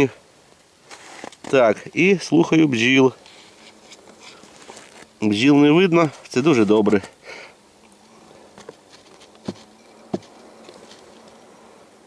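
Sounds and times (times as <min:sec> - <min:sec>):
honeybee colony humming: 0:00.0 - 0:12.0.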